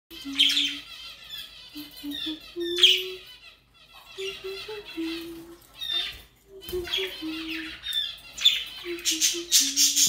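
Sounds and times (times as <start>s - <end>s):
budgerigars chattering and warbling: 0.1s - 10.0s.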